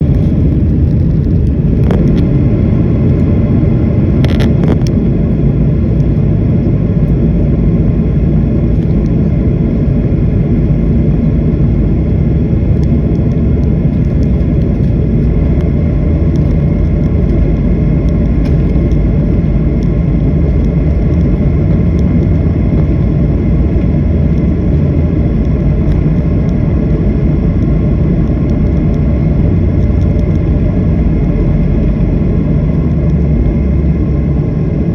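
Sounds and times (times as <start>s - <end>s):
jet airliner rumble: 0.0s - 34.9s.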